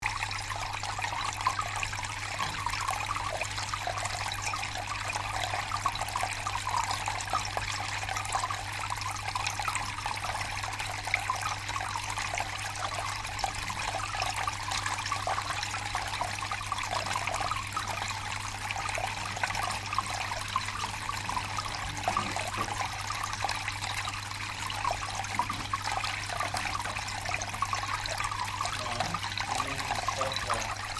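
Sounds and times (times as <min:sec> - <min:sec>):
water fountain splashing: 0:00.0 - 0:30.9.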